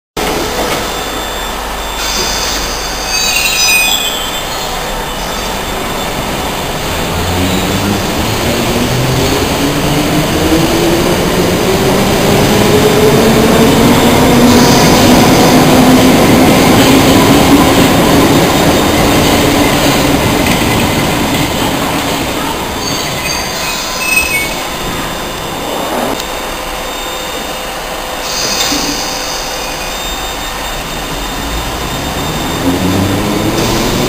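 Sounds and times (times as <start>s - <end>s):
train brakes squealing: 0.2s - 8.2s, 12.5s - 34.0s
traction motors whining: 0.2s - 34.0s
train running noise: 0.2s - 34.0s.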